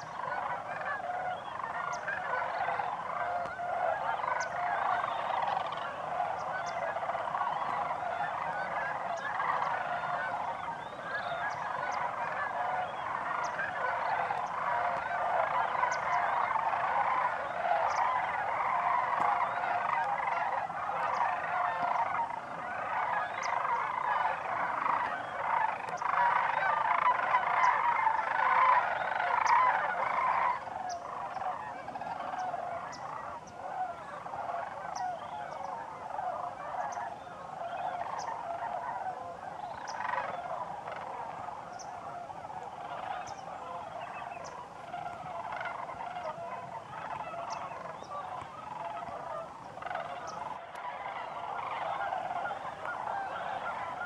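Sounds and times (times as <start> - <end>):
flock of cranes calling: 0.0 - 54.0.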